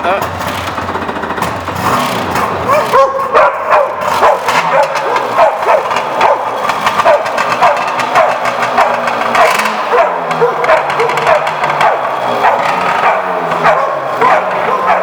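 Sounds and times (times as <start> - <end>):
engine running low: 0.0 - 15.0
dog barking: 2.6 - 15.0.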